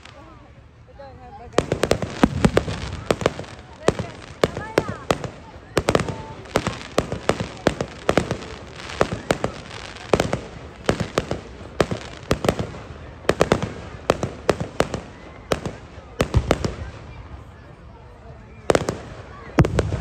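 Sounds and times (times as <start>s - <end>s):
fireworks bursting: 0.0s - 0.7s, 1.4s - 17.6s, 18.6s - 20.0s.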